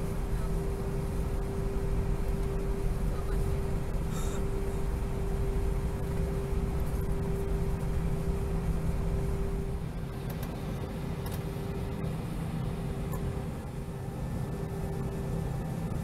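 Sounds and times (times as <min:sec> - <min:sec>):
airliner engine rumble and hiss: 0:00.0 - 0:16.0
steady hum: 0:00.0 - 0:16.0.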